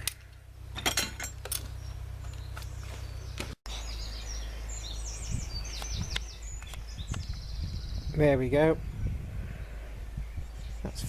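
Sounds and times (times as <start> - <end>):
small birds chirping: 1.4 - 11.0.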